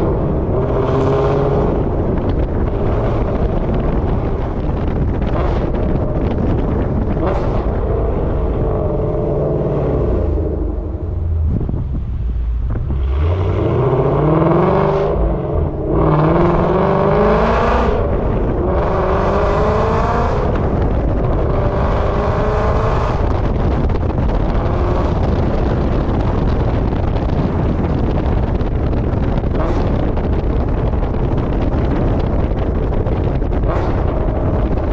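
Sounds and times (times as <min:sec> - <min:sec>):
loud car engine revving: 0:00.0 - 0:34.9.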